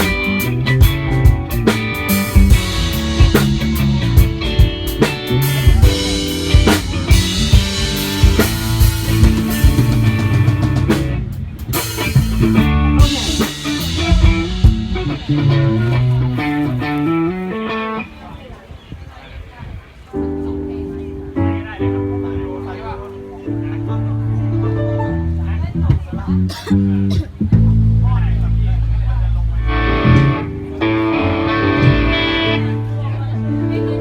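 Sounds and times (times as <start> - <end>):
rock band playing: 0.0 - 18.2, 20.6 - 34.0.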